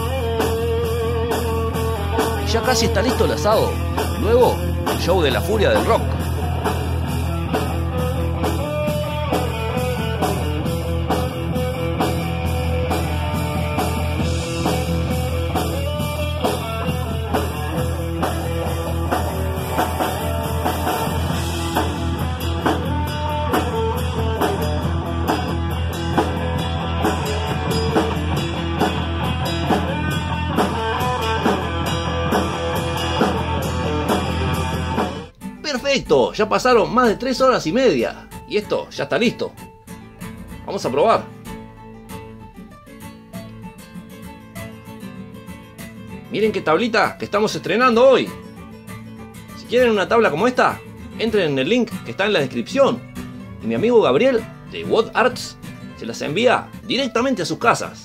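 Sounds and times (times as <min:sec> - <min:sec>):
electric guitar: 0:00.0 - 0:36.2, 0:39.6 - 0:56.9
electric bass: 0:00.0 - 0:48.3, 0:49.0 - 0:57.8
drum kit beat: 0:00.0 - 0:51.6.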